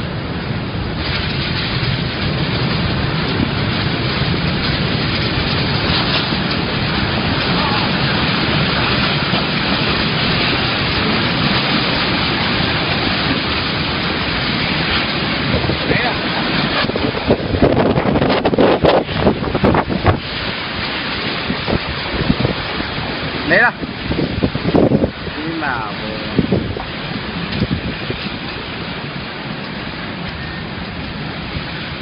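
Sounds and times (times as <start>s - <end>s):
wind and heavy rain: 0.0s - 32.0s.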